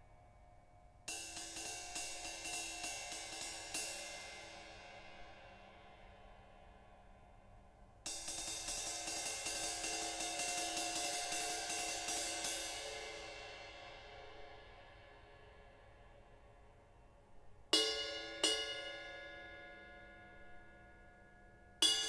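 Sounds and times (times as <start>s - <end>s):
ride cymbal struck with stick: 1.1s - 7.1s, 8.0s - 16.2s, 17.7s - 21.0s, 21.8s - 22.0s.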